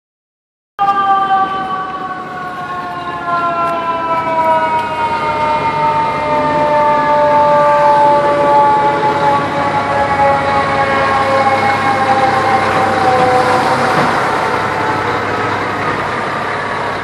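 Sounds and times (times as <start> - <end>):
fire truck siren: 0.8 - 17.0.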